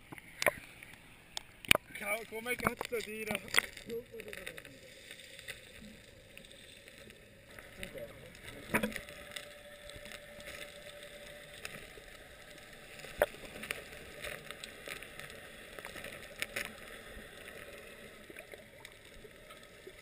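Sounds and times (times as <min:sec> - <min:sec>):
underwater water noise: 0:00.0 - 0:20.0.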